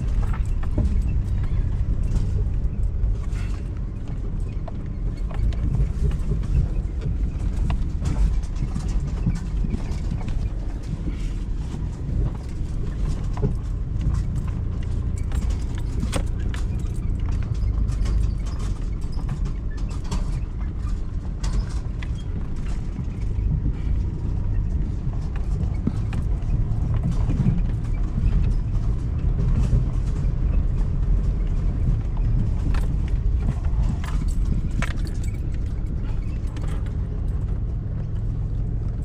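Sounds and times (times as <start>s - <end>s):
road and engine rumble: 0.0s - 39.0s
small knocks and rattles: 0.0s - 39.0s.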